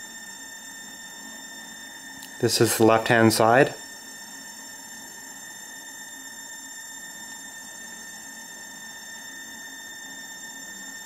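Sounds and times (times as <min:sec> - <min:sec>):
electrical whine: 0:00.0 - 0:11.0.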